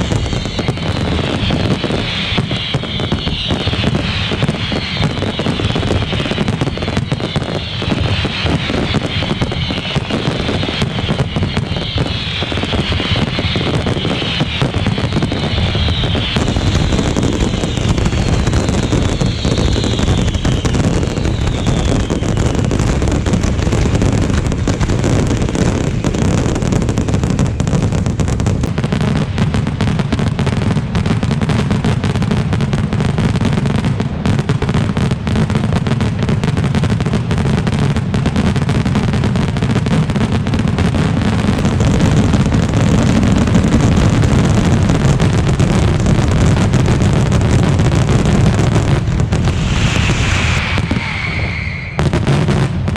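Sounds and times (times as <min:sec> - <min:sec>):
fireworks bursts crackling: 0:00.0 - 0:52.9.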